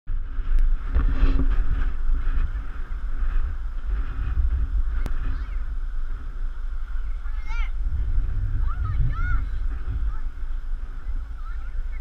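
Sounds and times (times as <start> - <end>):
gusty wind buffeting microphone: 0.1 - 12.0.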